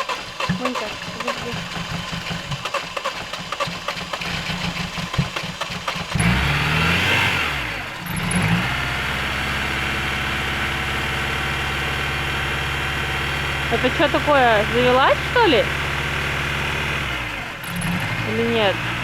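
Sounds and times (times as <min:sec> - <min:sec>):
car engine revving and idling: 0:00.0 - 0:19.0
car starter cranking: 0:00.0 - 0:19.0.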